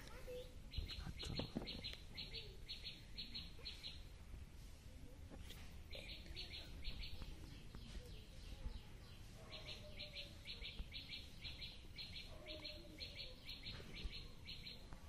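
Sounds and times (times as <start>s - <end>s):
bird chirping: 0.7s - 4.1s, 5.9s - 15.0s.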